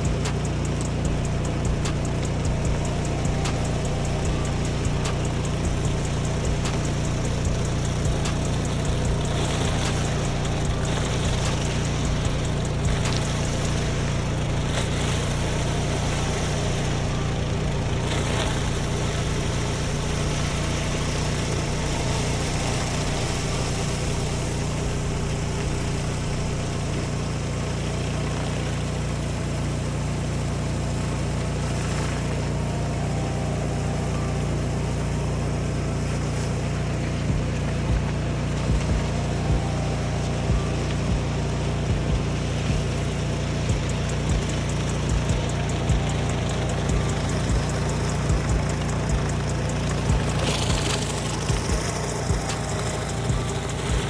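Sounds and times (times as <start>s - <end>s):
pressure washer engine running: 0.0s - 54.0s
water spraying onto concrete: 0.0s - 54.0s.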